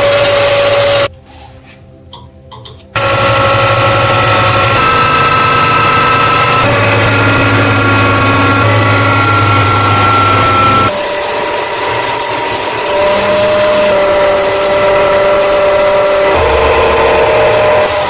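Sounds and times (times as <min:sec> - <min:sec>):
electric power tool running: 0:00.0 - 0:01.1, 0:03.0 - 0:18.0.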